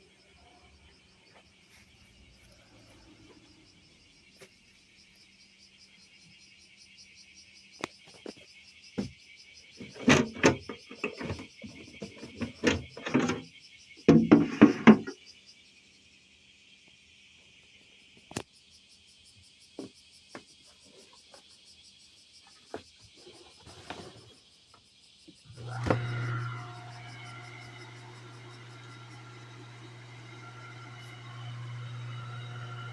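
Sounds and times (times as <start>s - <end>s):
crickets chirring: 0.0s - 32.5s.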